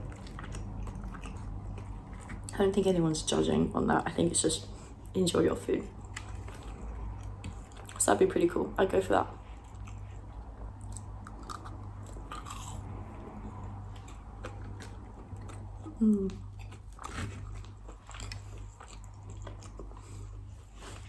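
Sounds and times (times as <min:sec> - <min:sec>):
chewing and biting: 0:00.0 - 0:03.4, 0:05.8 - 0:08.0, 0:09.3 - 0:21.0.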